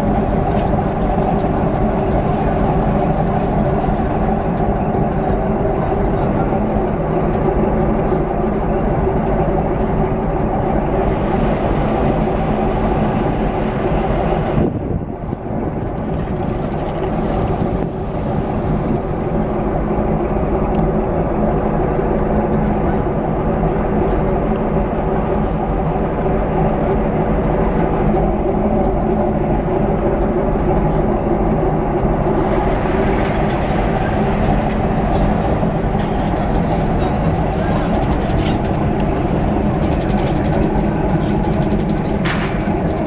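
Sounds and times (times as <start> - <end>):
ship engines droning: 0.0 - 43.0.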